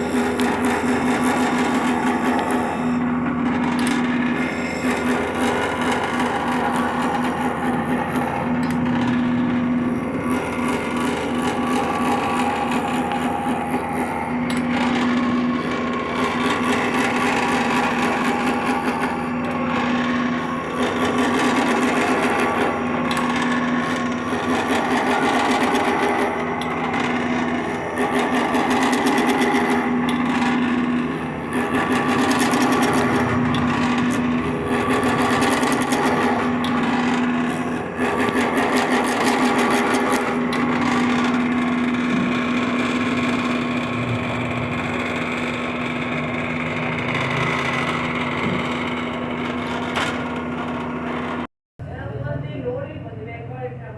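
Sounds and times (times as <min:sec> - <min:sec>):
lathe motor hum: 0:00.0 - 0:51.5
tool scraping spinning wood: 0:00.0 - 0:51.5.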